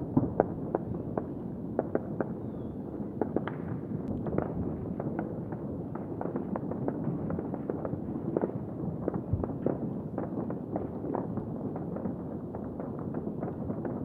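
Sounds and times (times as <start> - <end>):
distant fireworks banging: 0.0 - 14.0.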